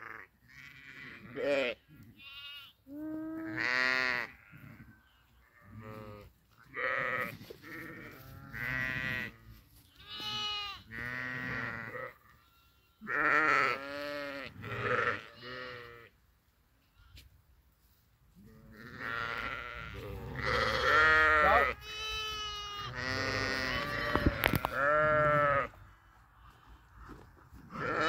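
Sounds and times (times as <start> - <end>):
sheep and lambs bleating: 0.0 - 16.2, 16.8 - 17.3, 18.4 - 26.9, 27.7 - 28.0.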